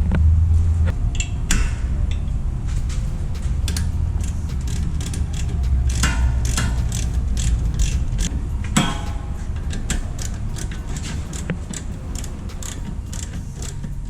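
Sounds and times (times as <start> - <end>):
low bass: 0.0 - 14.0
music with ticking beat: 0.9 - 14.0.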